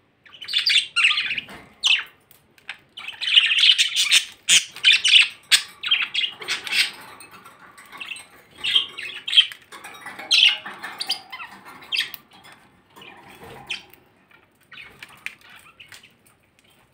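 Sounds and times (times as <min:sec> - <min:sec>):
budgerigars chirping and squawking: 0:00.2 - 0:16.9.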